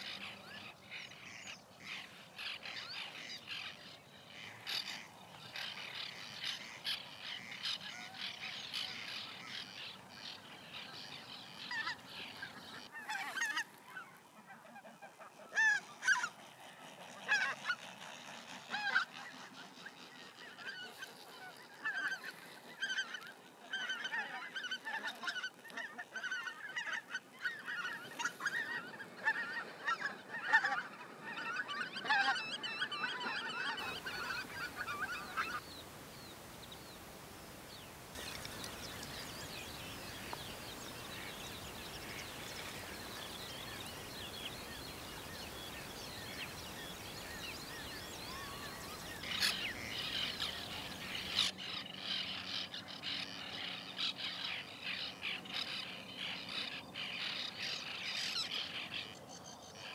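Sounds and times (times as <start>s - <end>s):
geese calling: 0.0s - 59.2s
faint steady background noise: 0.0s - 59.9s.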